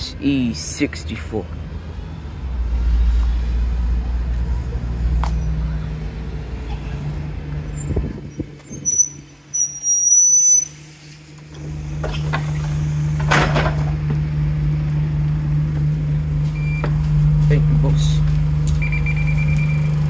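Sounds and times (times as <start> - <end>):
bus engine running: 1.6 - 20.0
brakes squealing: 1.9 - 20.0.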